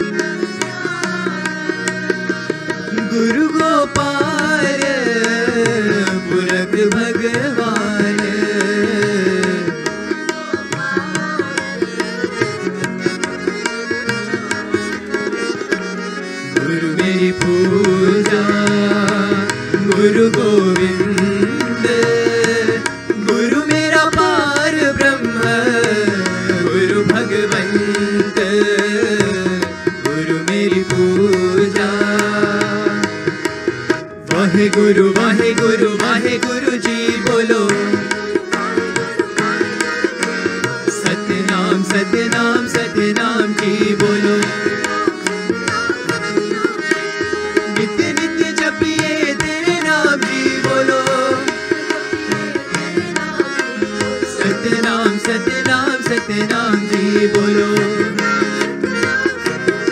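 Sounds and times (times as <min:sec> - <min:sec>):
tabla beat: 0:00.0 - 0:59.9.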